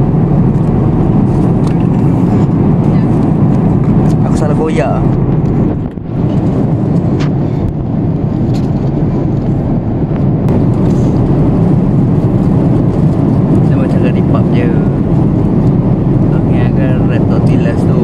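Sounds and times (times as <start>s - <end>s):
jet airliner cabin noise: 0.0s - 18.0s.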